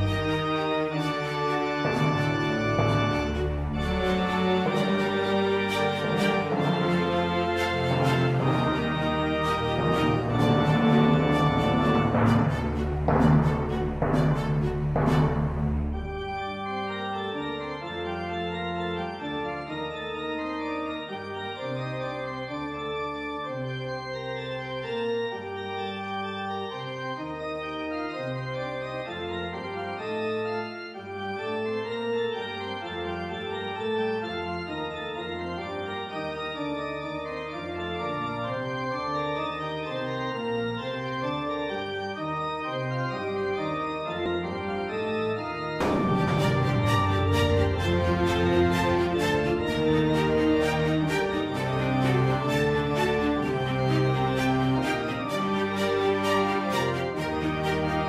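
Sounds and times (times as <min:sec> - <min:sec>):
sustained organ chords: 0:00.0 - 0:58.0.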